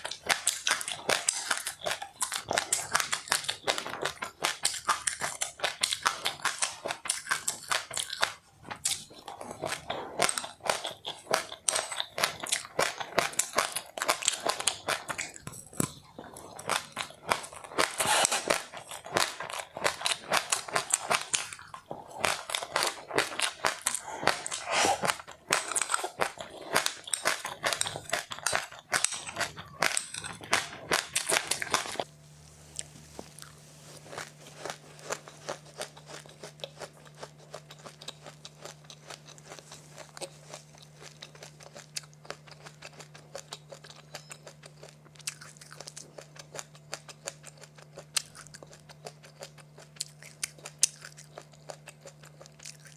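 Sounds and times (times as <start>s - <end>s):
crunchy chewing of snack: 0.0s - 52.9s
steady low hum: 8.4s - 52.9s.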